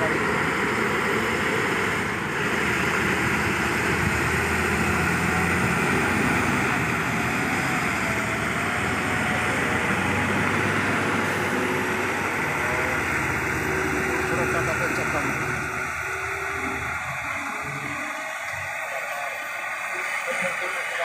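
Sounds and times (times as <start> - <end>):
heavy diesel trucks driving uphill: 0.0 - 21.0.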